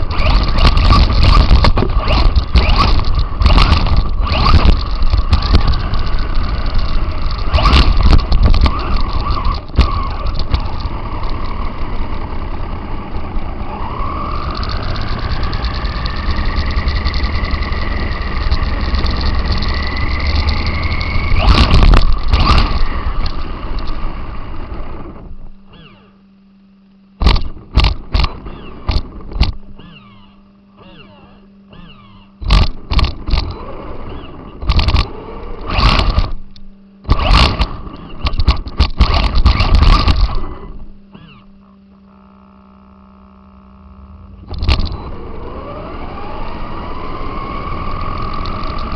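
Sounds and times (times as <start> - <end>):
toy car rattling over rough ground: 0.0 - 26.1, 27.2 - 41.6, 44.4 - 48.9
drivetrain whine: 0.0 - 48.9
low steady hum: 0.0 - 48.9.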